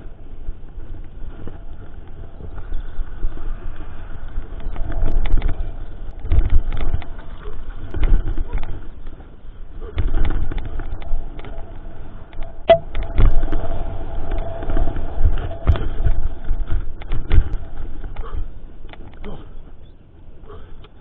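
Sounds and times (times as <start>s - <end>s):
bike rattling and knocking: 0.0s - 19.4s
steady whine: 0.0s - 19.9s
wind noise on microphone: 0.0s - 21.0s.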